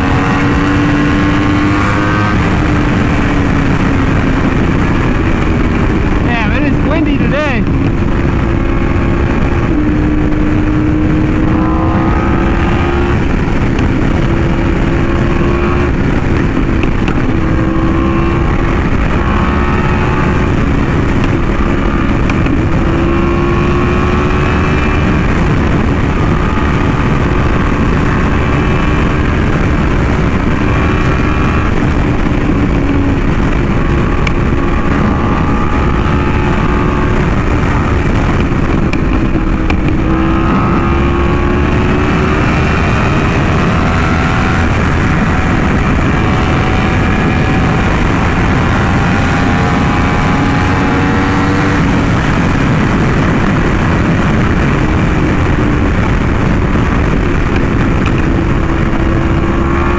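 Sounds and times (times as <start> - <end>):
motorcycle engine at speed: 0.0 - 59.9
wind rushing: 0.0 - 59.9.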